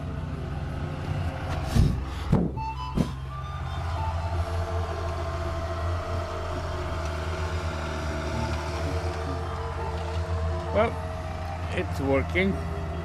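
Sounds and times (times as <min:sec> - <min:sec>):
truck engine running: 0:00.0 - 0:13.0
reversing beeper: 0:02.6 - 0:13.0.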